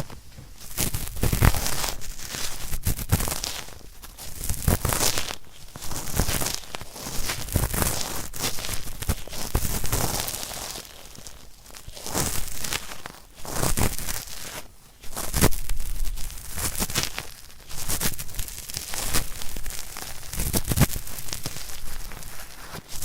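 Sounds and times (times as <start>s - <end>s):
cotton swab scratching on microphone: 0.0s - 23.0s.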